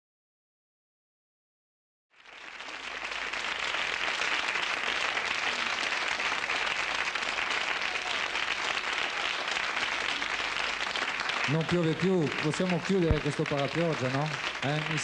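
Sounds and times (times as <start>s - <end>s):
audience applause: 2.1s - 15.0s.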